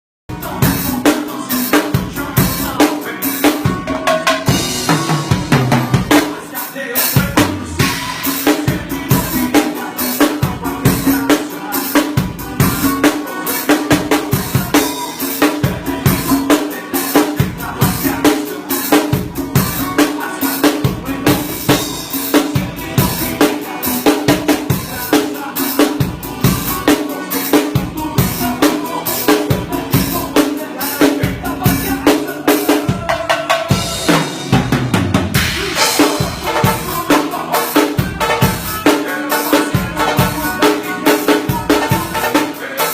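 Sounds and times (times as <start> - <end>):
band music: 0.3 - 42.9
drum kit playing busy beat: 0.3 - 42.9.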